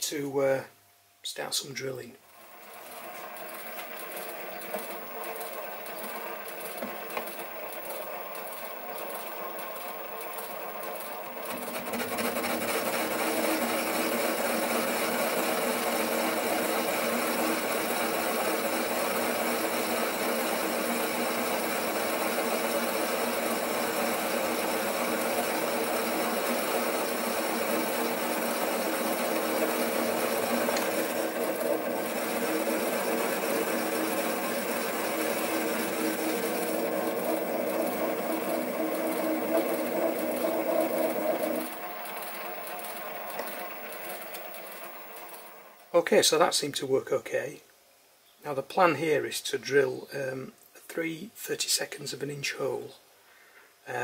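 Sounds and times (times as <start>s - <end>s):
lathe motor whine: 2.4s - 45.9s.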